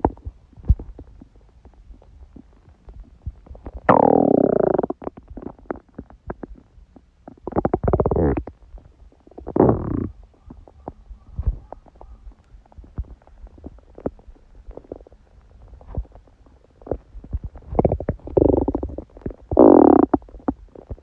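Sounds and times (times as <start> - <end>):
stomach gurgling and growling: 0.0 - 21.0.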